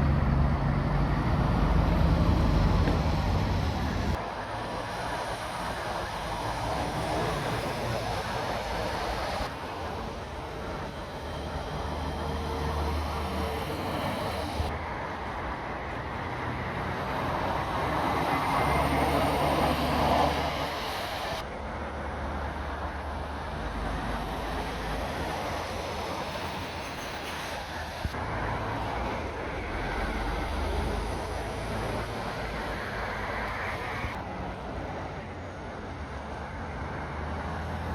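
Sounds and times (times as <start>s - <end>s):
lorry diesel engines rumbling: 0.0s - 37.9s.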